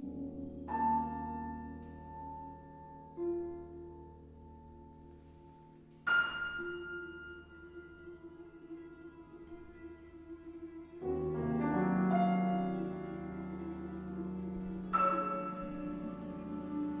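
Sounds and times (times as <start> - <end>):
quiet chamber music: 0.0 - 17.0.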